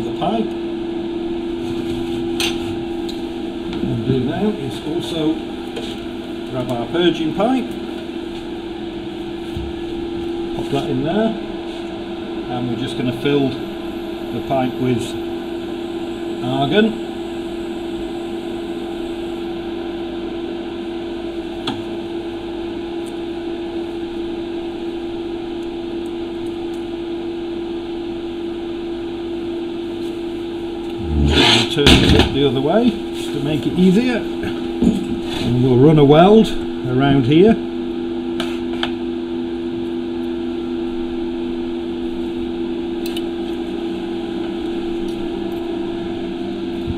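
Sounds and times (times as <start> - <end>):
fan hum: 0.0 - 46.9.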